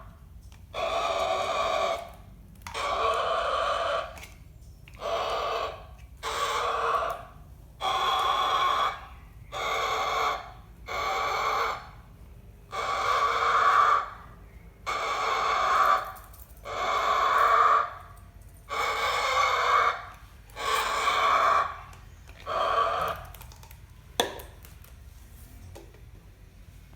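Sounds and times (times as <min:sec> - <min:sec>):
cockatoo calling: 0:00.0 - 0:23.6.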